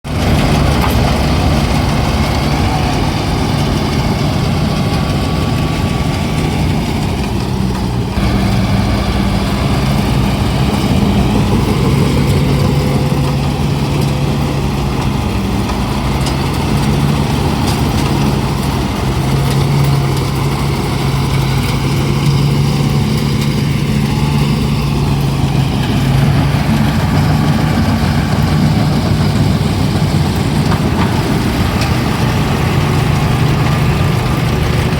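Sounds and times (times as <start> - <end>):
harvester engine running: 0.0 - 34.9.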